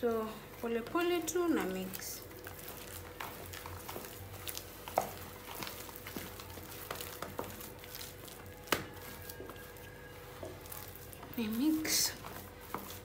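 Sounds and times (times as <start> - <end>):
spoon mashing potatoes: 0.1 - 13.0.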